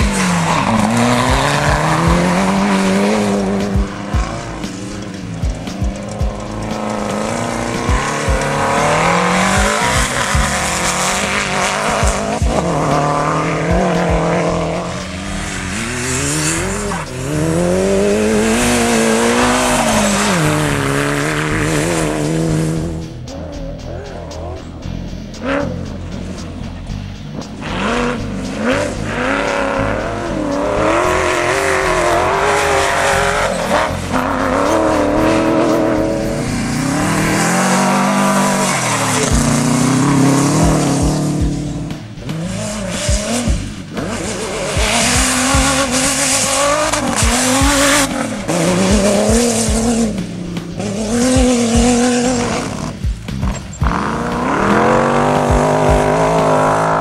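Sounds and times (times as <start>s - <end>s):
race buggy engines revving: 0.0s - 57.0s.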